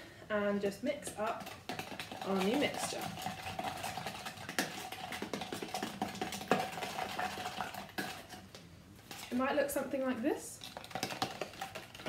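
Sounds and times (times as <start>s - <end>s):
spoon beating egg in plastic jug: 0.6s - 9.8s, 10.6s - 12.0s.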